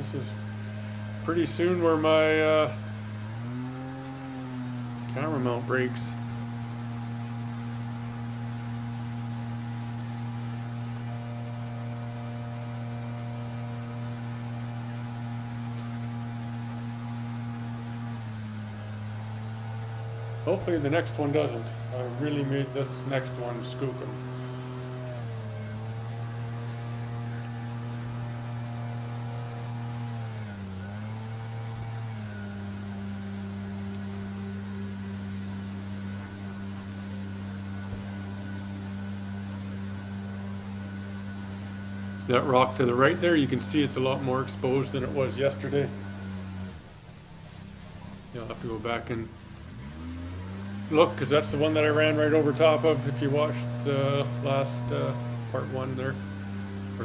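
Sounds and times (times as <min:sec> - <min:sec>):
boat outboard engine droning: 0:00.0 - 0:57.0.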